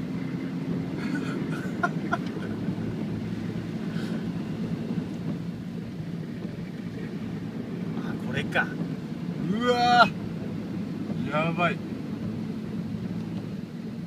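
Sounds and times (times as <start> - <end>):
car engine humming: 0.0 - 14.0
road and water noise: 0.0 - 14.0.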